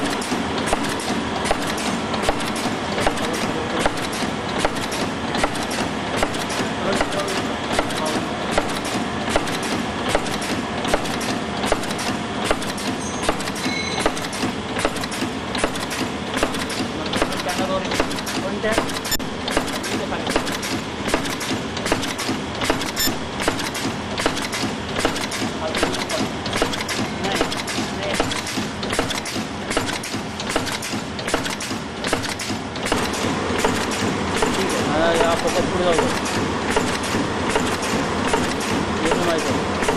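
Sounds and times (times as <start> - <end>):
mechanical hum: 0.0 - 39.9
packing machine clatter: 0.0 - 39.9
sharp machine click: 0.0 - 39.9.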